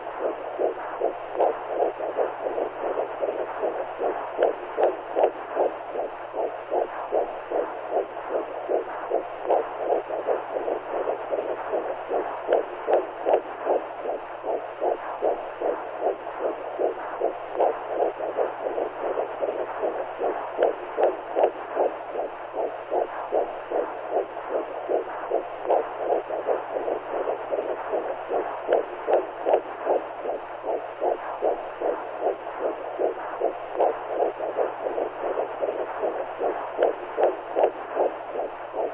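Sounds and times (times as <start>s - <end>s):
faint low hum: 0.0s - 38.9s
rhythmic whooshing heartbeat pulse: 0.0s - 38.9s.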